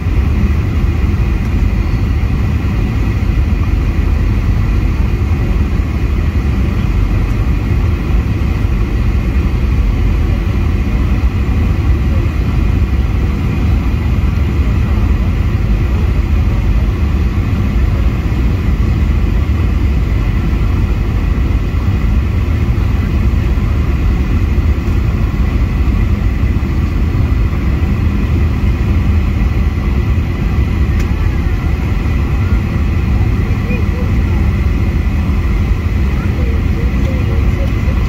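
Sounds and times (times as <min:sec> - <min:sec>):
airplane cabin rumble: 0:00.0 - 0:38.0
faint steady whine: 0:00.0 - 0:38.0.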